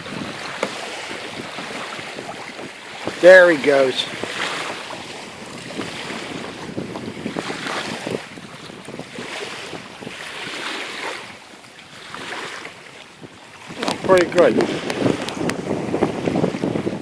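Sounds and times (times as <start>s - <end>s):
water splashing from paddling: 0.0s - 17.0s
wind buffeting microphone: 0.0s - 17.0s.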